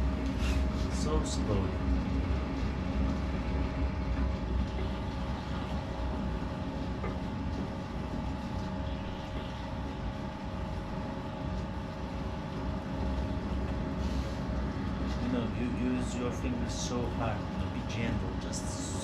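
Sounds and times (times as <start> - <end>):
potter's wheel spinning: 0.0 - 19.0.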